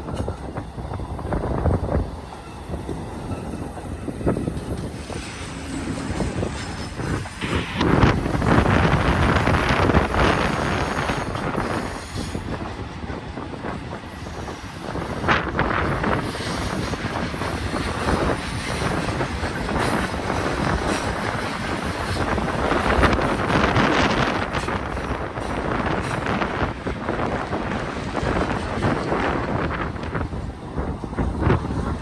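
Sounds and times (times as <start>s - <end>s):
freight train rumbling on rails: 0.0s - 32.0s.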